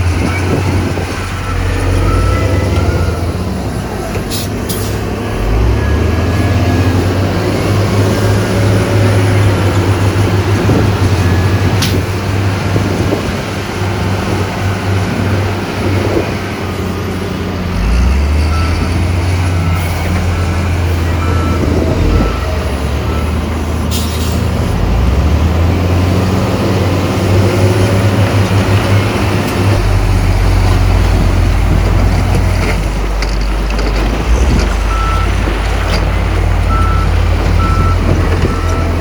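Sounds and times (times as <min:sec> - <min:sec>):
heavy diesel machinery running: 0:00.0 - 0:39.0.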